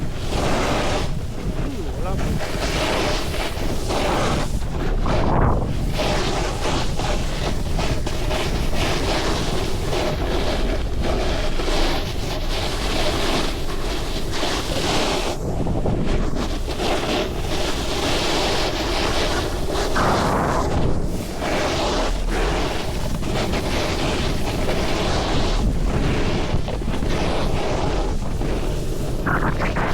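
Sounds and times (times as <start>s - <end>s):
wind noise on microphone: 0.0s - 29.9s.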